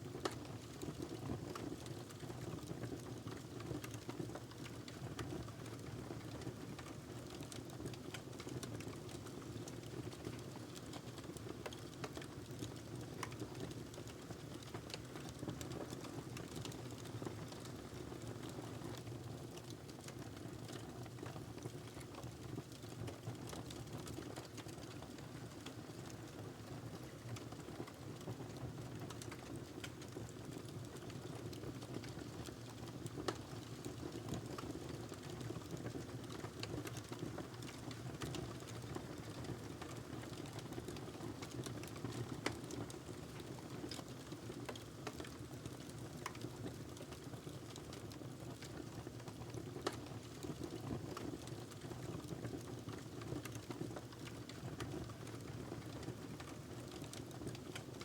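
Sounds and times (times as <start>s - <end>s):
wood fire crackling and popping: 0.1s - 58.0s.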